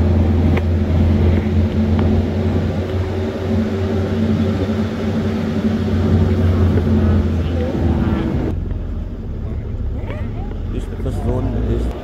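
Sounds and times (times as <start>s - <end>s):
road noise: 0.0s - 12.0s
tuk-tuk engine humming: 0.0s - 12.0s.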